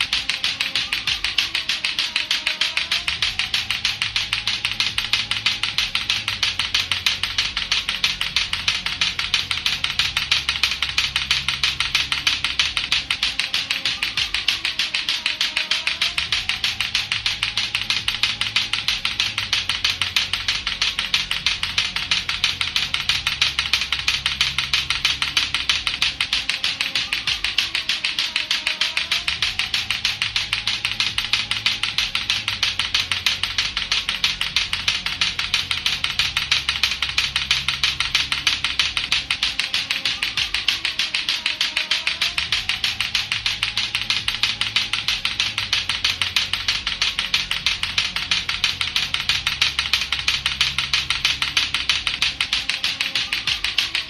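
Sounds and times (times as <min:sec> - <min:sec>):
clacker toy balls clacking: 0:00.0 - 0:54.0.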